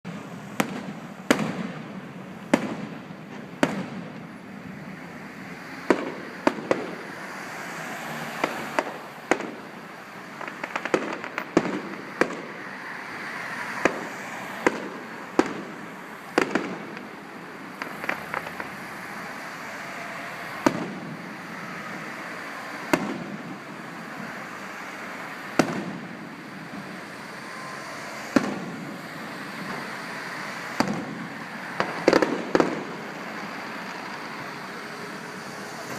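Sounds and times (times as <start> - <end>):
fireworks bursting bangs: 0.1 - 35.9.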